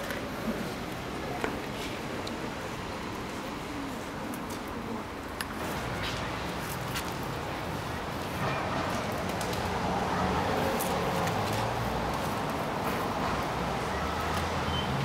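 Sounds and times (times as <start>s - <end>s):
low traffic hum: 0.0s - 15.0s.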